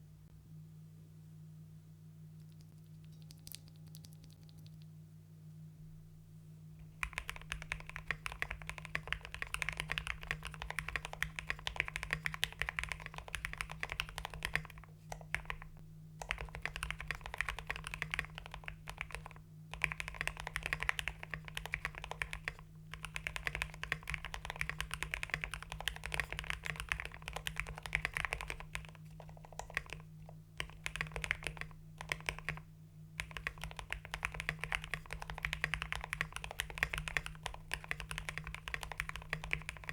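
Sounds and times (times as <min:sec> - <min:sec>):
mechanical keyboard typing: 0:07.0 - 0:32.6, 0:33.2 - 0:39.9.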